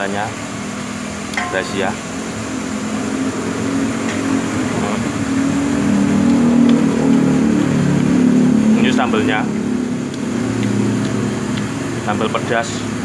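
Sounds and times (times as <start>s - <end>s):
vehicle engine humming: 0.9s - 13.0s.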